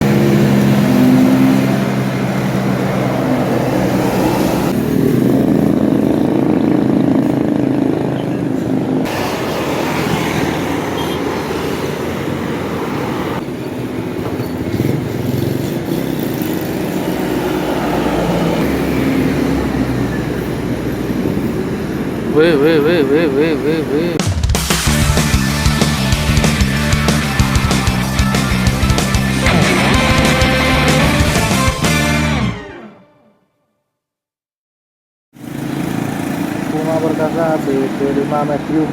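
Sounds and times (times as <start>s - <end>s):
diesel bus engines: 0.0s - 32.8s, 35.4s - 38.9s
road traffic: 0.0s - 33.0s, 35.4s - 38.9s.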